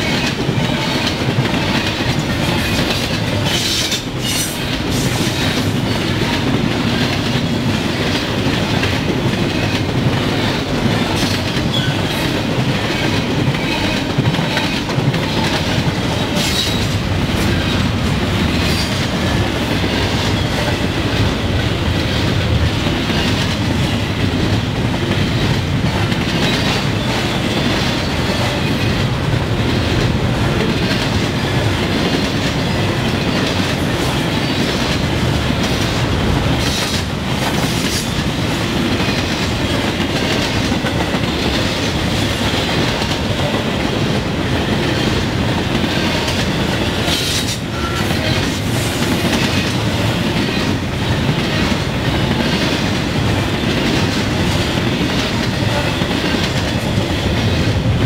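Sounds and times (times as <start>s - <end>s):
freight train rumbling: 0.0s - 58.0s
wheels clickety-clack on rails: 0.0s - 58.0s.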